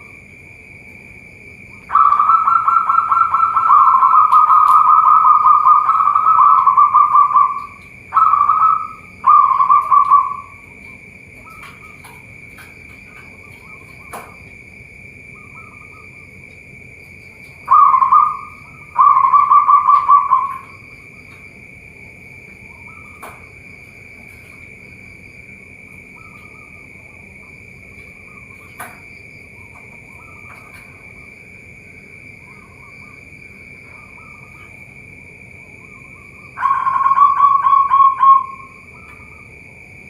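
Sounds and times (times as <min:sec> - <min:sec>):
doves cooing: 0:01.7 - 0:39.8.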